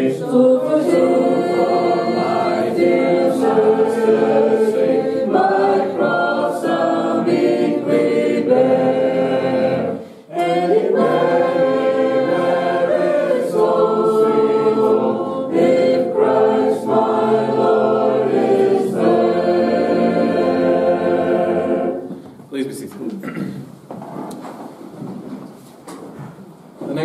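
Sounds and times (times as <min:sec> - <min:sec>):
congregation singing a hymn: 0:00.0 - 0:22.3.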